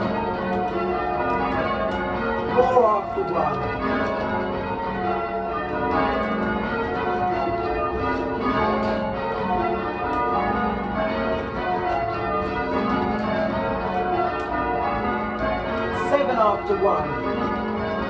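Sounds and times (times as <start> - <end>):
church bells ringing changes: 0.0 - 18.0.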